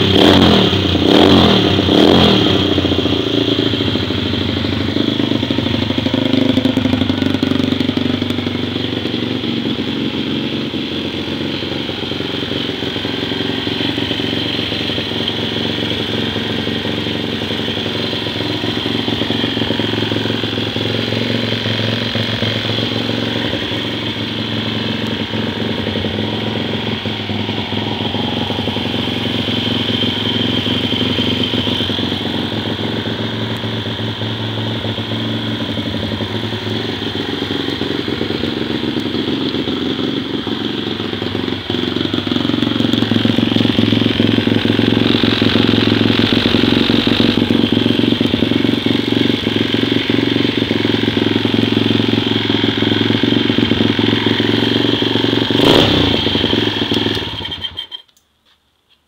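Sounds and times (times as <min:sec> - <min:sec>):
motorcycle engine running near idle: 0:00.0 - 0:58.6.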